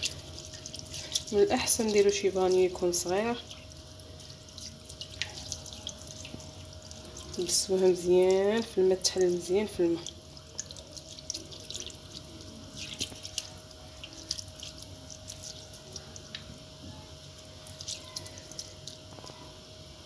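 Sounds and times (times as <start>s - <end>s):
small water splashes and drips: 0.0s - 19.4s.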